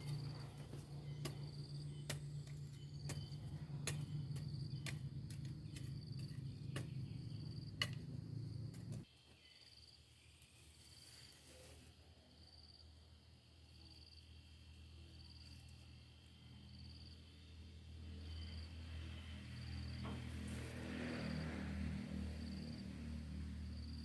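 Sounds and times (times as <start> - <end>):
crickets chirping: 0.0 - 10.3, 12.3 - 17.5, 18.1 - 20.2, 21.0 - 24.0.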